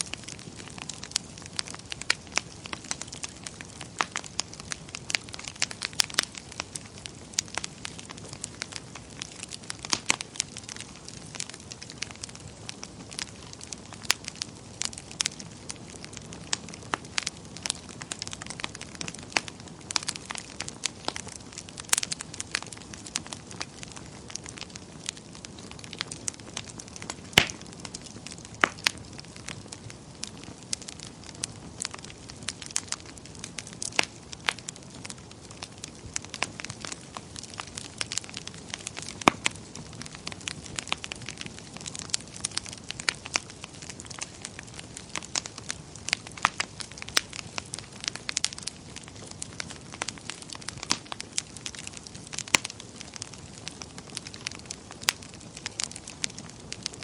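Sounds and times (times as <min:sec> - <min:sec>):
sharp pops from fire: 0:00.0 - 0:57.0
wood fire crackling: 0:00.0 - 0:57.0.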